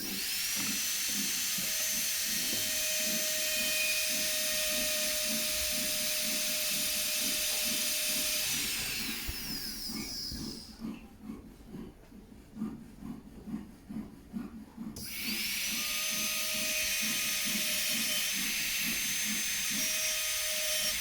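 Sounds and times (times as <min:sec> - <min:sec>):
rotary tool whining: 0:00.0 - 0:11.0, 0:14.9 - 0:21.0.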